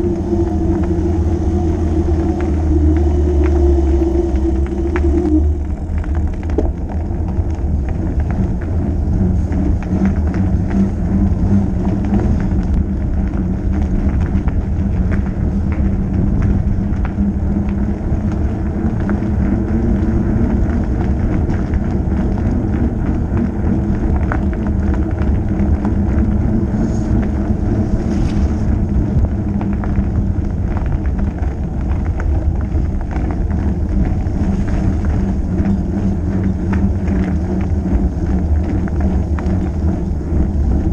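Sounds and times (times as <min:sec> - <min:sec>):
bike tyres rolling over asphalt: 0:00.0 - 0:40.9.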